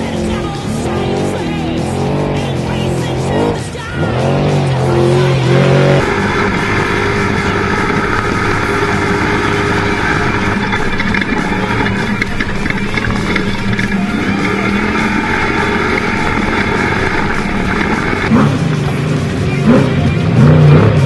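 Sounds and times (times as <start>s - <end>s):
music: 0.0s - 21.0s
road and chassis noise: 0.0s - 21.0s
truck engine revving: 0.0s - 21.0s.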